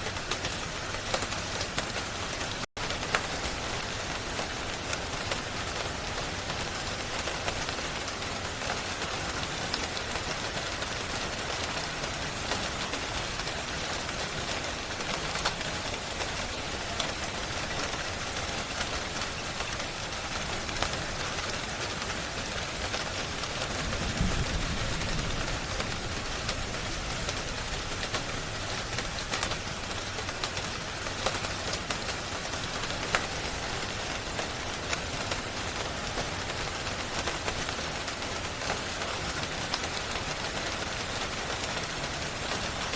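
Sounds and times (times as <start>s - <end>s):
rain hissing: 0.0s - 42.9s.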